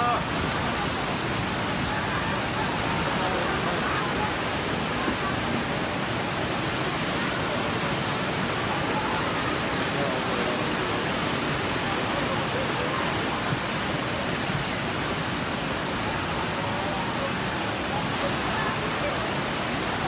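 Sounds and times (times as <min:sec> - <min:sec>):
faint voices: 0:00.0 - 0:20.0
floodwater rushing: 0:00.0 - 0:20.0.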